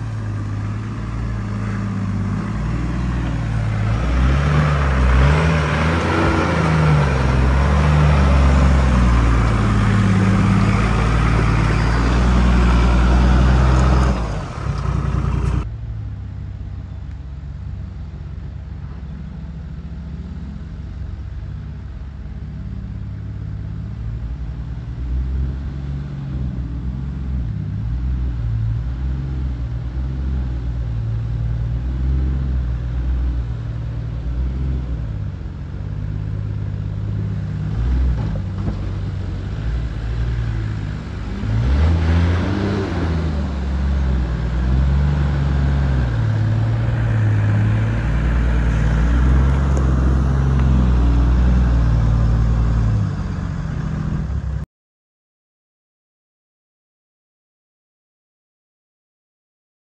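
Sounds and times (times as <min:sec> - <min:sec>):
vehicle engine revving: 0:00.0 - 0:15.7, 0:18.8 - 0:54.6.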